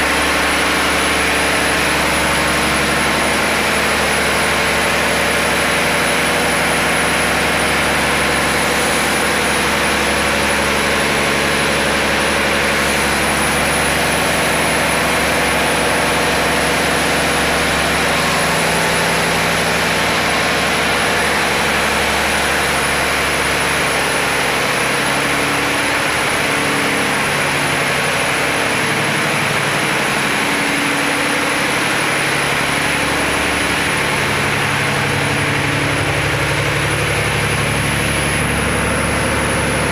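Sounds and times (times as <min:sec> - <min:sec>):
boat diesel engine running: 0:00.0 - 0:39.9.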